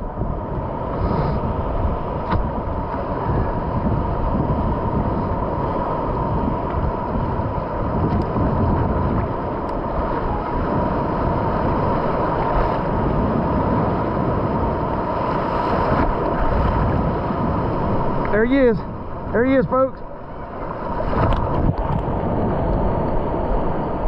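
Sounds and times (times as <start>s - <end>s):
surf washing around pilings: 0.0s - 24.0s
wind buffeting microphone: 0.0s - 24.0s.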